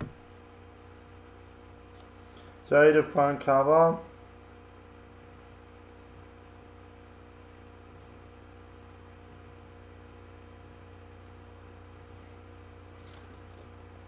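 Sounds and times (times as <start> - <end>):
low electrical hum with hiss: 0.0 - 14.0.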